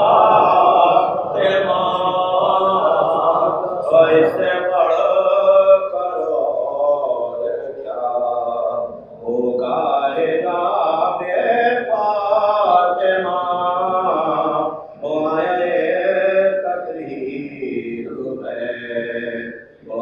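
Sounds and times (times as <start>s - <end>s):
man chanting: 0.0s - 20.0s.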